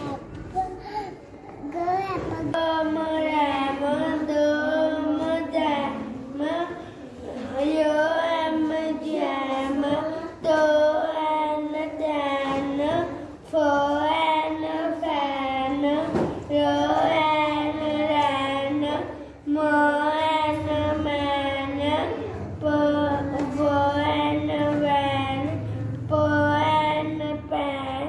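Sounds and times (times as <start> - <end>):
boy reading aloud in sing-song: 0.0 - 28.0.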